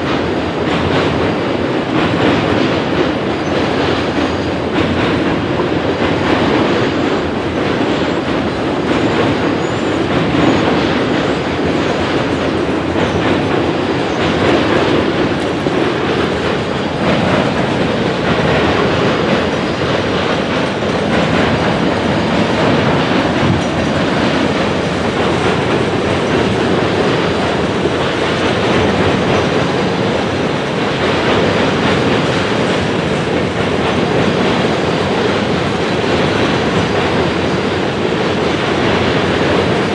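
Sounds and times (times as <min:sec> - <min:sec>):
clickety-clack over rail joints: 0:00.0 - 0:39.9
freight train wheels rumbling on rail: 0:00.0 - 0:39.9.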